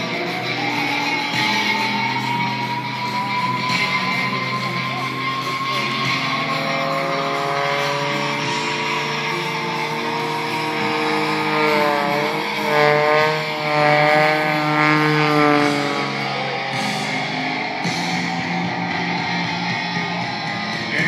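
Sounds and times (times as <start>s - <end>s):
airplane engine and propeller: 0.0s - 21.0s
rock music over loudspeakers: 0.0s - 21.0s.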